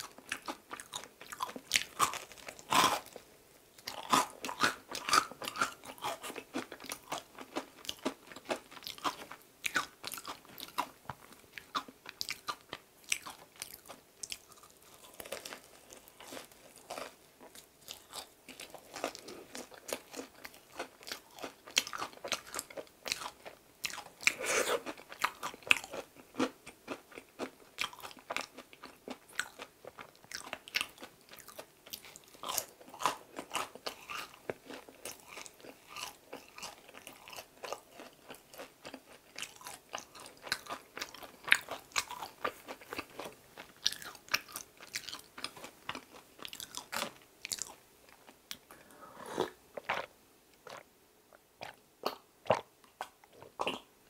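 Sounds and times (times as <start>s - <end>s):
chewing crispy bread: 0.0s - 48.8s.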